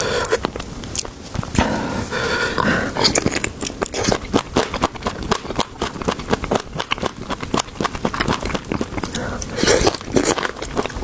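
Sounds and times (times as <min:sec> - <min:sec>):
close chewing and biting: 0:00.0 - 0:11.0.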